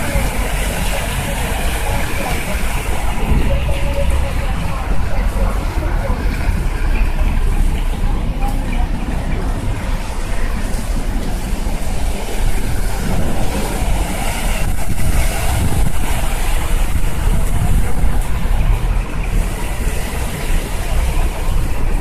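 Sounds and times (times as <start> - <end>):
falling rain: 0.0 - 22.0
low microphone rumble: 0.0 - 22.0
tyres hissing through water: 0.0 - 22.0.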